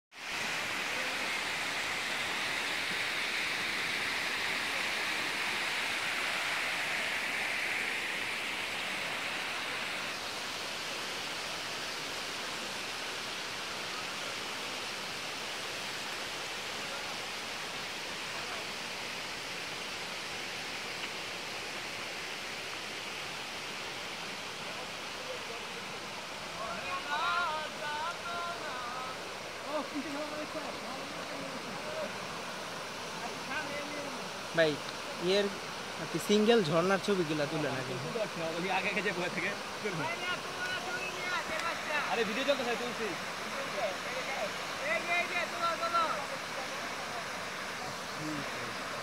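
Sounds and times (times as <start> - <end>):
water rushing over rock: 0.1 - 49.0.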